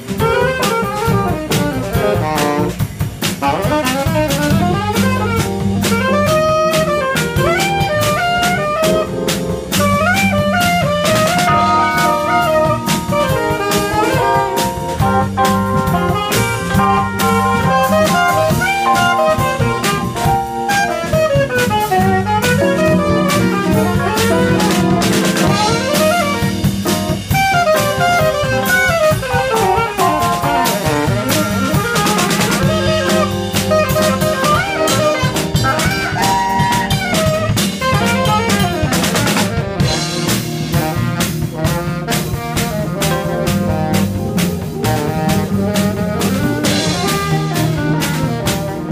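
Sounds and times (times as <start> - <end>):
cymbals: 0.0 - 48.9
drum kit: 0.0 - 48.9
saxophone melody: 0.0 - 48.9.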